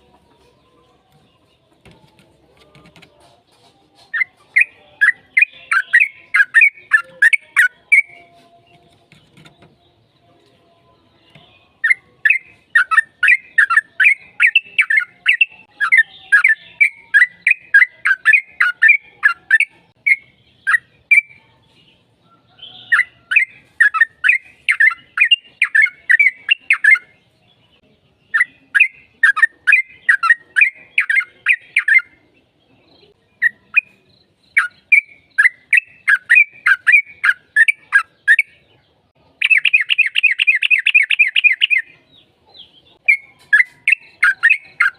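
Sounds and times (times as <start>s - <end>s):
bird chattering song: 0.0s - 10.3s, 11.0s - 44.9s.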